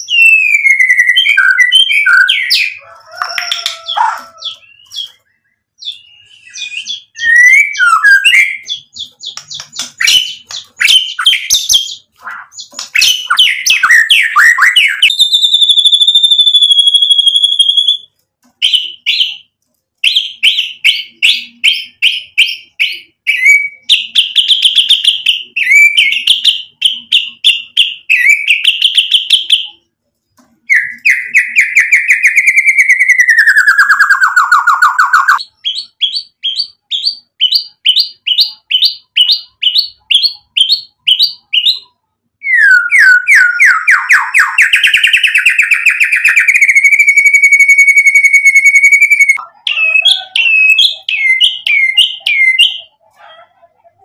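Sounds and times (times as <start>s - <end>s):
bird singing varied song: 0.0s - 53.0s.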